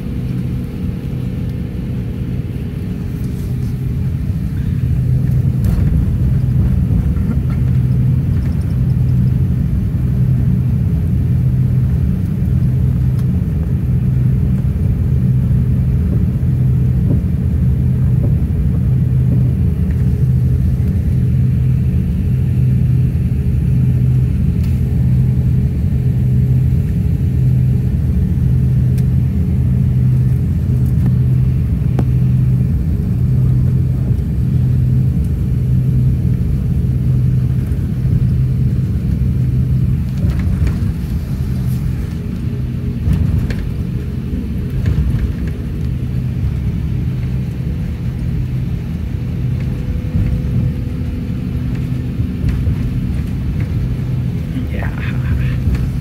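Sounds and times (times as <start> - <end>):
deep throbbing hum: 0.0 - 56.0
jet cabin low rumble: 0.0 - 56.0.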